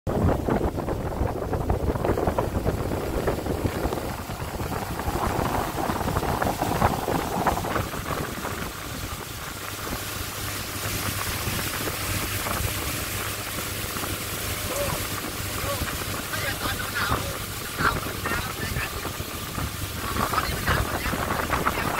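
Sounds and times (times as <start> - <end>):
speedboat engine drone: 0.1 - 21.9
water rushing past hull: 0.1 - 21.9
wind noise: 0.1 - 21.9.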